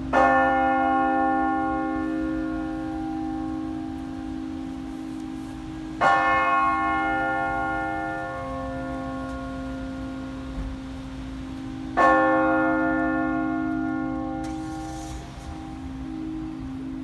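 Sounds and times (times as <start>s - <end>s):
church bell tolling: 0.0s - 17.0s.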